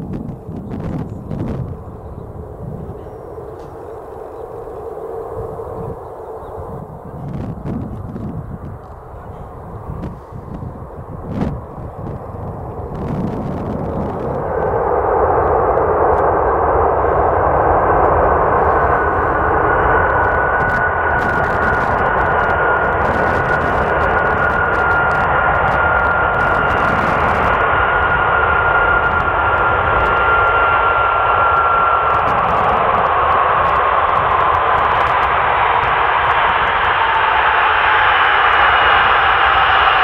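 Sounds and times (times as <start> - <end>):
jet engines rumbling with whine: 0.0 - 40.0.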